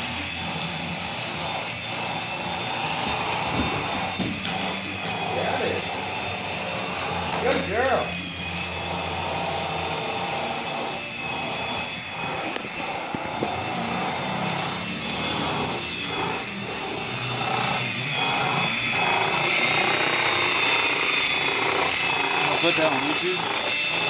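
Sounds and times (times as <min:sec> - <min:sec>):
electric hand mixer whining: 0:00.0 - 0:24.0.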